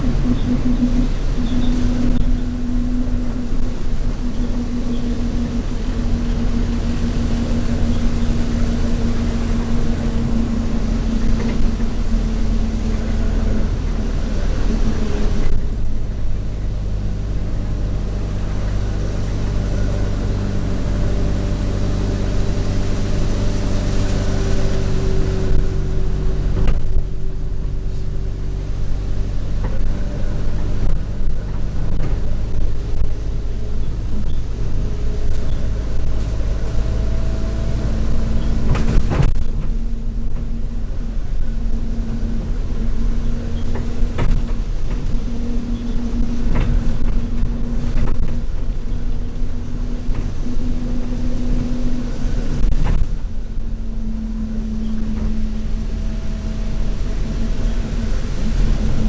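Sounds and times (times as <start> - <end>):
bus diesel engine running: 0.0 - 59.0
high-pitched turbo whine: 0.0 - 59.0.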